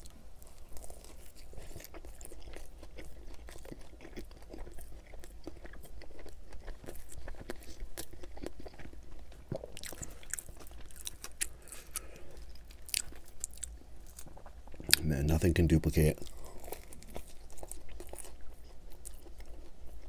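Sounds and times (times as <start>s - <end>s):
chewing with crisp crackles: 0.0s - 20.0s.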